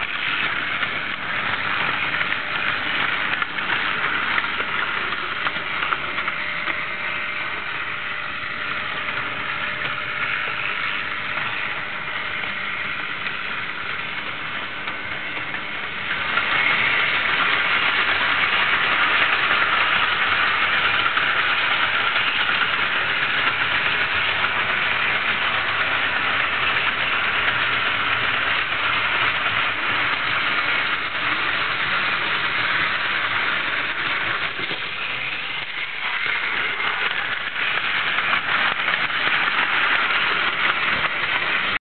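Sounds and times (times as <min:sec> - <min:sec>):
model train whirring rattle: 0:00.0 - 0:41.8.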